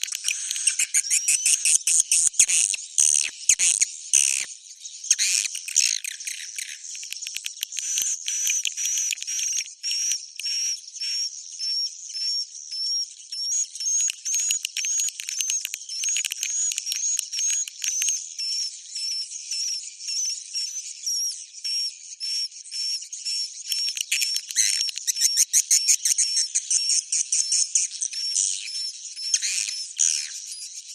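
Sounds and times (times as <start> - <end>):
swiftlet call chirping twitters: 0.0 - 30.9.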